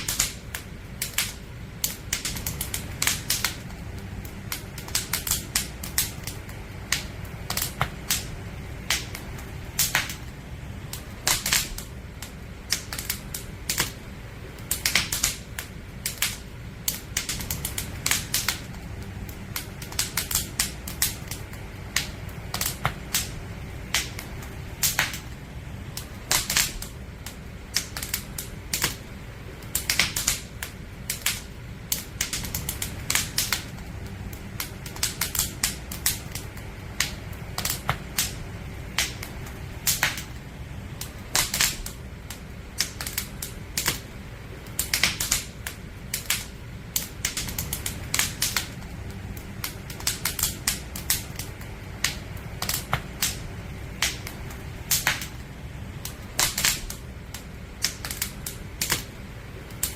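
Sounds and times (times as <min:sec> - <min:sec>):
firewood crackling and popping: 0:00.0 - 0:59.9
low rumble of fire: 0:00.0 - 0:59.9.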